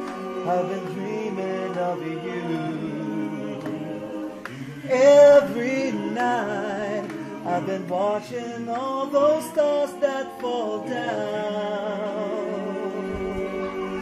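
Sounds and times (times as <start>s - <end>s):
choir singing a cappella: 0.0s - 14.0s.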